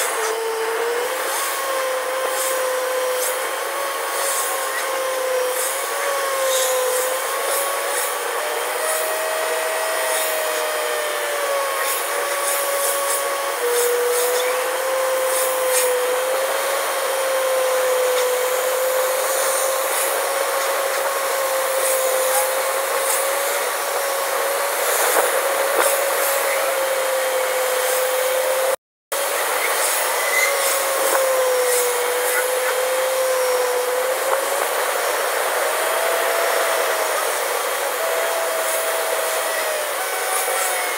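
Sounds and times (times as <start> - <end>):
car road and engine noise: 0.0 - 40.9
wavering whine: 0.0 - 40.9.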